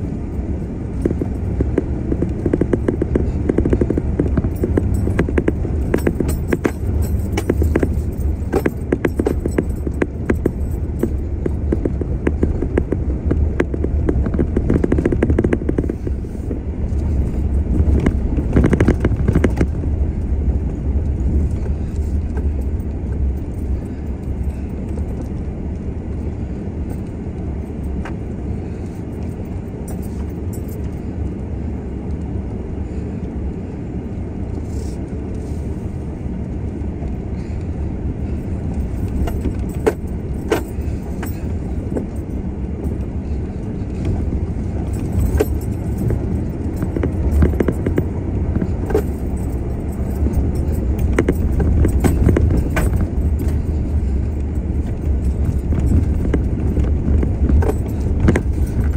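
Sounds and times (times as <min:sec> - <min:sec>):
vehicle engine and tyres rumbling: 0:00.0 - 0:58.9
sharp clicks and rattles: 0:00.1 - 0:31.4, 0:38.2 - 0:58.9.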